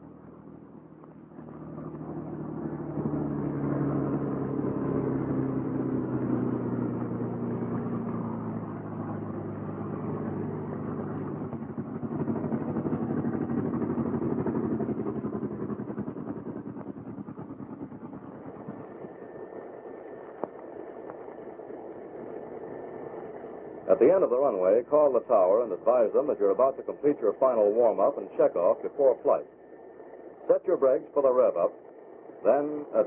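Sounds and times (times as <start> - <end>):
aircraft engine droning: 0.0 - 33.0.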